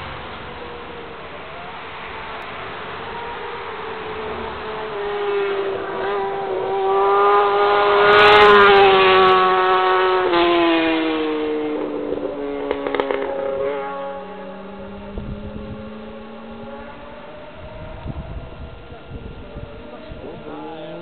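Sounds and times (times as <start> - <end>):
motorcycle engine at high revs: 4.1 - 21.0.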